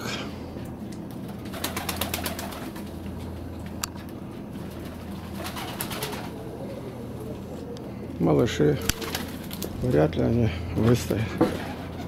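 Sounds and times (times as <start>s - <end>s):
low hum: 0.0s - 12.0s
pigeons cooing: 1.2s - 3.4s, 4.4s - 12.0s.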